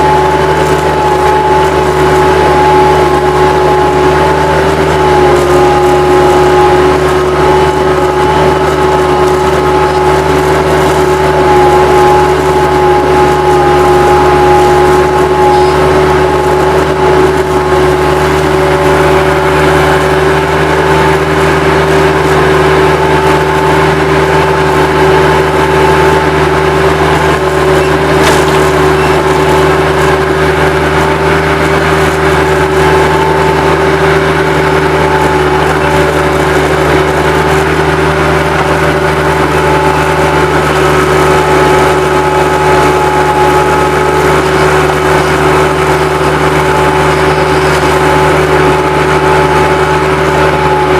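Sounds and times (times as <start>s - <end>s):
constant whine: 0.0s - 50.9s
diesel engine running: 0.0s - 50.9s.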